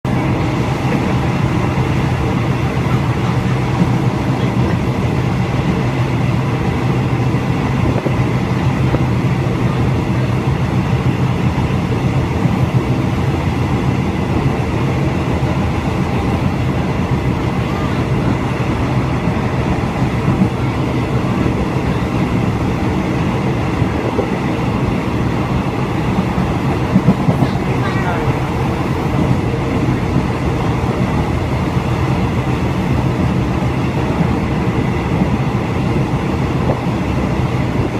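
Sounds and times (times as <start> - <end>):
train running rumble: 0.0 - 37.9.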